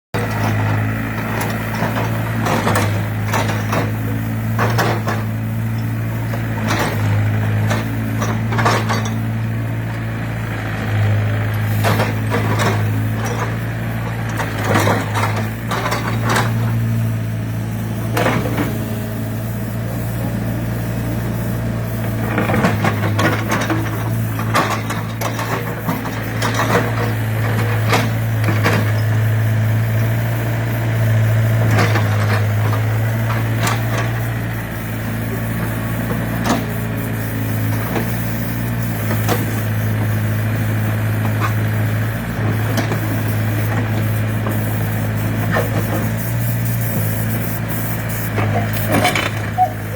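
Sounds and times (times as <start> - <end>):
diesel engine idling: 0.1 - 49.9.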